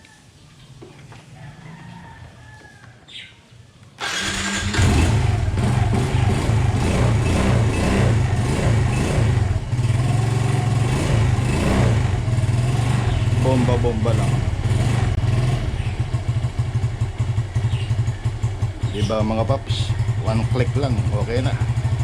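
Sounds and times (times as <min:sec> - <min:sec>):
motorcycle engine idling: 0:04.0 - 0:22.0
motorcycle engine starting: 0:04.0 - 0:22.0.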